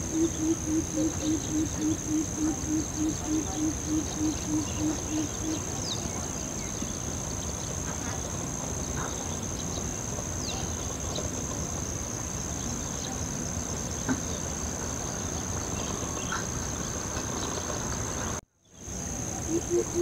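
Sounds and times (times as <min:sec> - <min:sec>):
outdoor background rush: 0:00.0 - 0:20.0.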